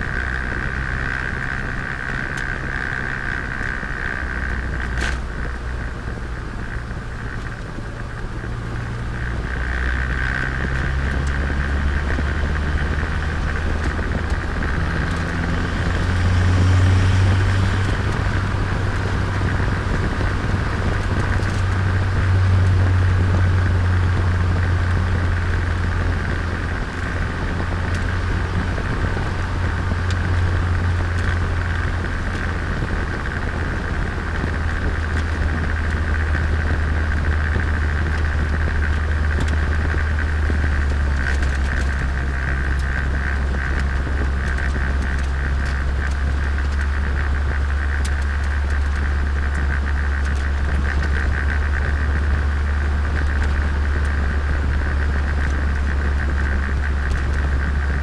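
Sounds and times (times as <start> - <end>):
car engine revving: 0.0 - 58.0
road noise: 0.0 - 58.0.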